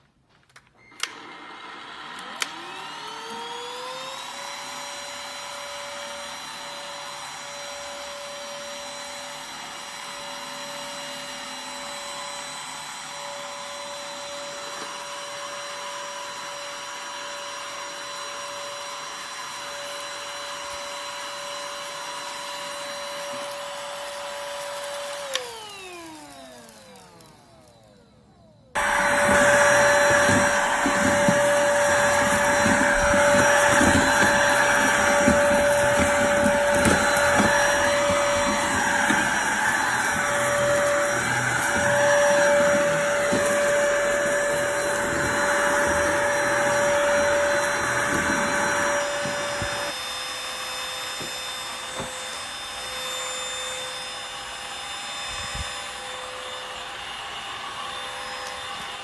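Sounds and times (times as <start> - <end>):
stick vacuum cleaner running: 0.8 - 59.0.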